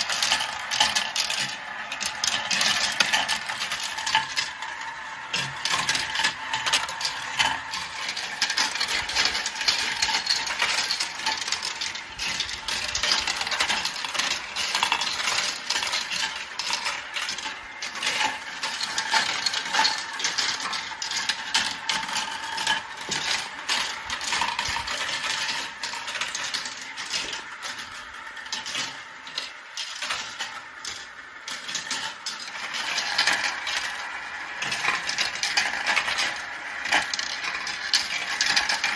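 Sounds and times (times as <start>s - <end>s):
marbles clattering on track: 0.0s - 38.9s.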